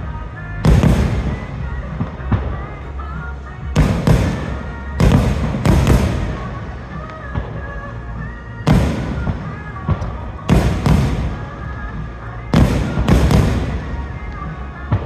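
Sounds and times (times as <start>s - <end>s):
fireworks booming: 0.0s - 15.0s
music playing: 0.0s - 15.0s.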